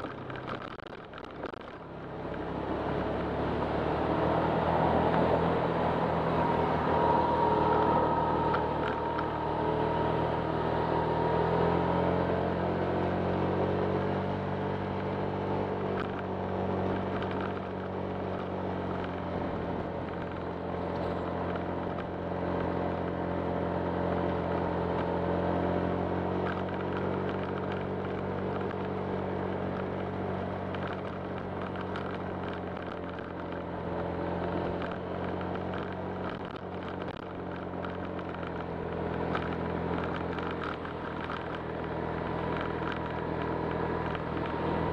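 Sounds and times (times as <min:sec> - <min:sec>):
road and wind noise: 0:00.0 - 0:44.9
scooter engine running: 0:00.0 - 0:44.9.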